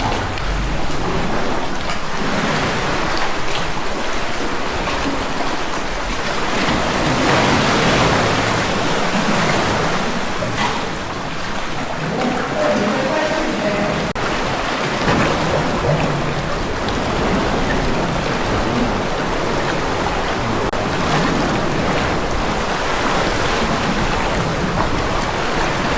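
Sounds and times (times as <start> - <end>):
sea water splashing around kayak: 0.0 - 25.9.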